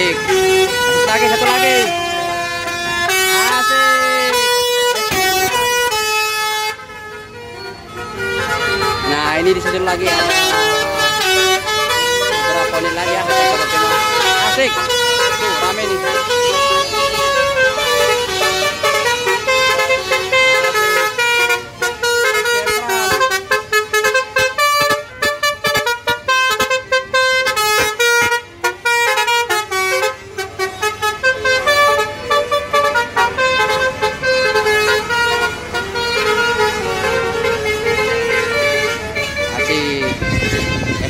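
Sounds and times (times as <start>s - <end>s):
multi-tone air horn tune: 0.0s - 41.0s.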